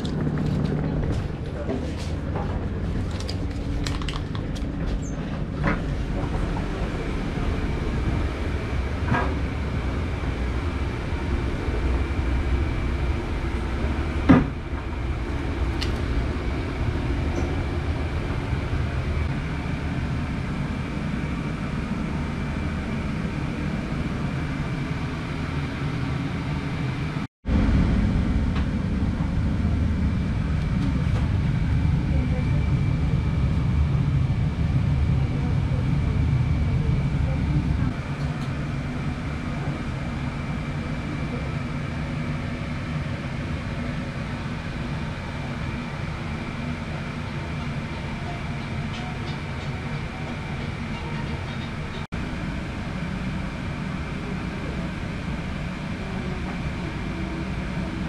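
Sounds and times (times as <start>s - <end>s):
train carriage rumble and hum: 0.0s - 58.0s.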